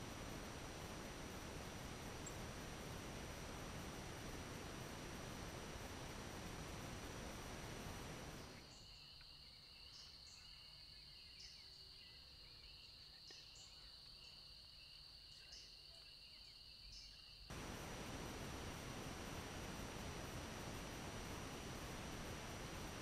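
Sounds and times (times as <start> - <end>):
faint even hiss: 0.0 - 23.0.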